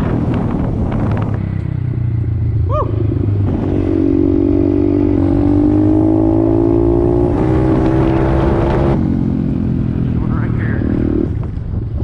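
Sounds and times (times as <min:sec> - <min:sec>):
pit bike engine under throttle: 0:00.0 - 0:12.0.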